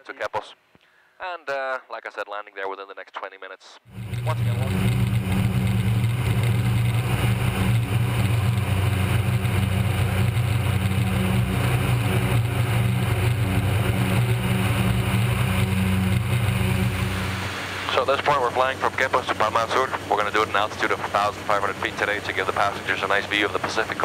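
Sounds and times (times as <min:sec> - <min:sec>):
turboprop engine drone: 0:03.9 - 0:24.0.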